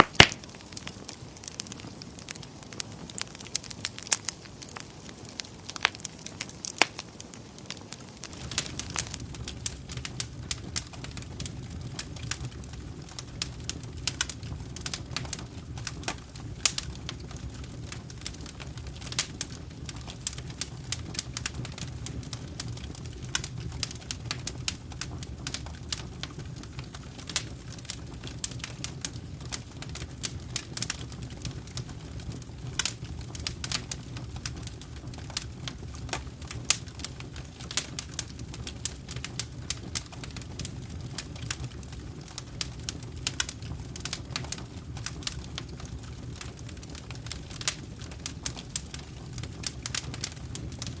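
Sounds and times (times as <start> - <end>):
low rumble of burning: 0.0 - 51.0
wood fire crackling and popping: 0.0 - 51.0.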